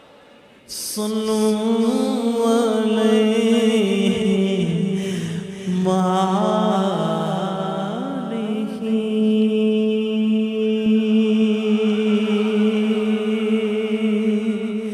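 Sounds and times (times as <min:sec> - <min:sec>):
man singing into microphone: 0:00.6 - 0:14.9.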